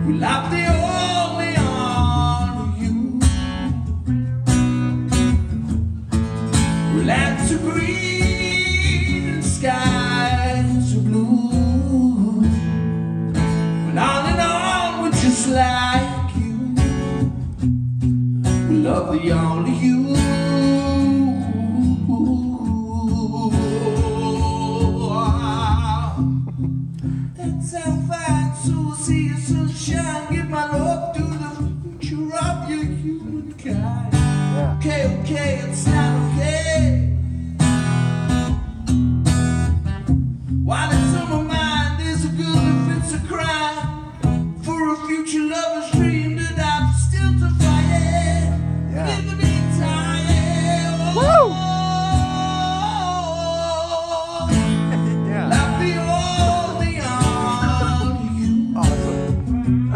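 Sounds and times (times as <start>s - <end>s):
man singing: 0.0s - 3.9s, 6.8s - 12.9s, 13.8s - 17.3s, 18.6s - 26.7s, 27.3s - 37.2s, 40.6s - 59.9s
acoustic guitar strumming: 0.0s - 59.9s.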